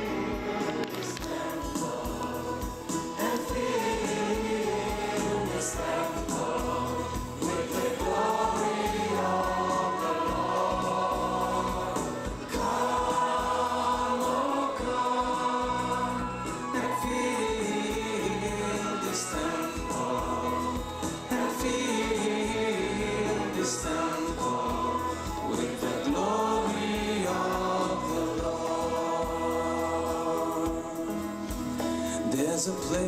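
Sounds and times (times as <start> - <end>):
choir singing gospel song: 0.0 - 33.0
instrumental accompaniment with beat: 0.0 - 33.0.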